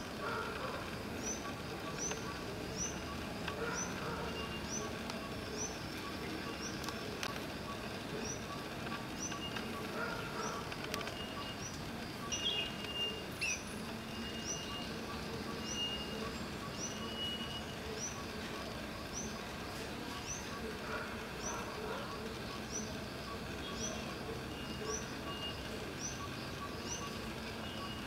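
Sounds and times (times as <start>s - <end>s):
bird chirping: 0.0s - 28.0s
loud bird calls: 0.0s - 28.0s
steady background noise: 0.0s - 28.0s.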